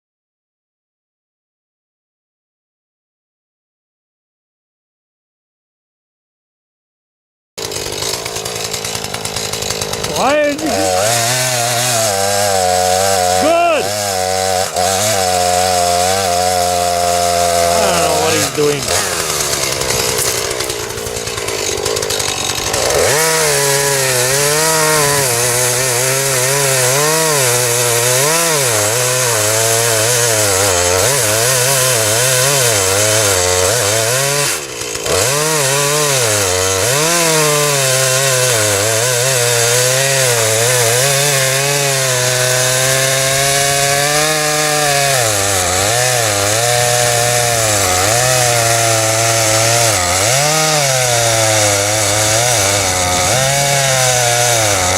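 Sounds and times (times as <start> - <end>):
chainsaw cutting wood: 7.6 - 54.9.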